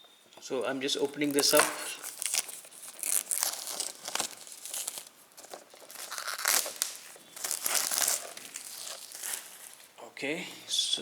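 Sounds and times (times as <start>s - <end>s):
plastic shrink-wrap tearing: 1.0s - 9.9s.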